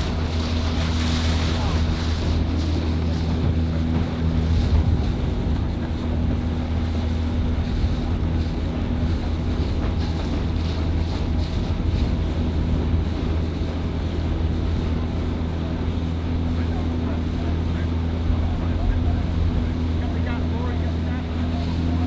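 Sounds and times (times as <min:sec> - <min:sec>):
boat engine running: 0:00.0 - 0:22.0
rush of water: 0:00.0 - 0:22.0
wind buffeting microphone: 0:00.0 - 0:22.0.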